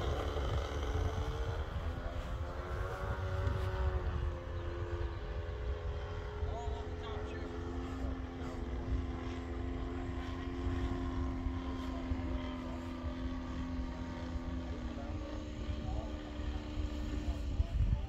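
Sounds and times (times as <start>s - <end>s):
model airplane engine droning: 0.0s - 18.0s
wind on microphone: 0.0s - 18.0s.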